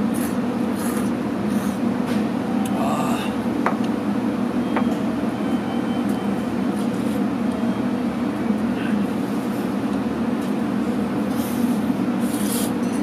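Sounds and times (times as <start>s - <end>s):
low drone of railway platform: 0.0s - 13.0s.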